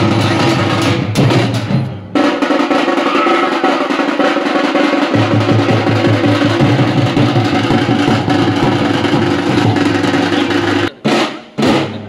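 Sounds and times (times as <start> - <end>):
drummers beating steel drums: 0.0 - 12.0.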